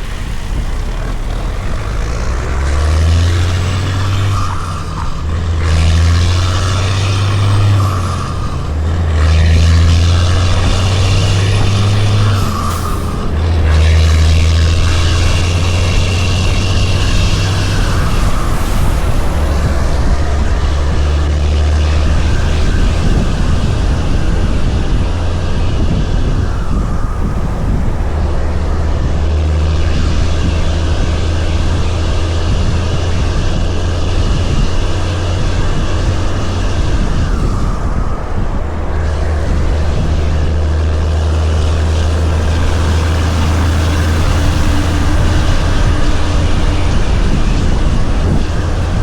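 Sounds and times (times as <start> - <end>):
road noise: 0.0 - 49.0
truck diesel engine drone: 0.0 - 49.0.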